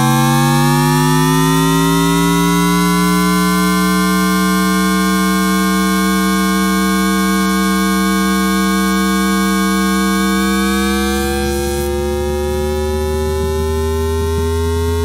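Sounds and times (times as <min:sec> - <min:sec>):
rising electronic tones of train inverter: 0:00.0 - 0:14.9.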